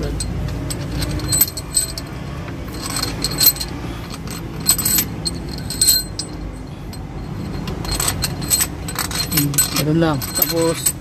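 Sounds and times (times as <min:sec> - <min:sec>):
metal bolts clinking: 0:00.0 - 0:11.0.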